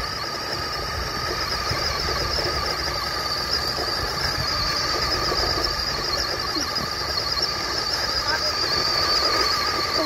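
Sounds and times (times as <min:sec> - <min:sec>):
electric motor high whine: 0:00.0 - 0:10.0
tyres churning through sand: 0:00.0 - 0:10.0.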